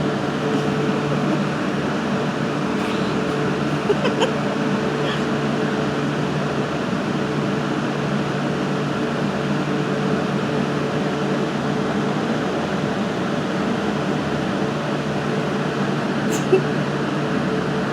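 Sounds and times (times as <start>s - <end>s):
steady mechanical hum: 0.0s - 17.9s.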